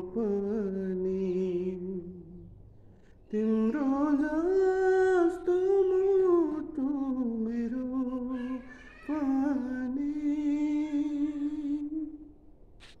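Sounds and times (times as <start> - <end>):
man singing unaccompanied: 0.0 - 2.5, 3.2 - 12.3.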